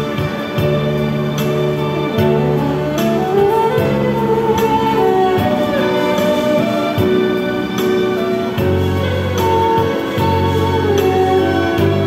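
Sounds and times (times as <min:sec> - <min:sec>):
backing track with bass and beat: 0:00.0 - 0:12.0
erhu melody: 0:00.0 - 0:12.0
saxophone melody: 0:00.0 - 0:12.0.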